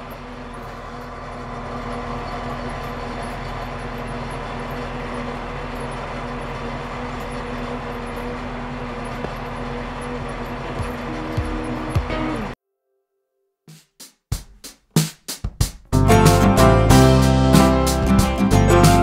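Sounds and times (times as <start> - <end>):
tractor diesel engine running: 0.0 - 12.6, 15.9 - 19.0.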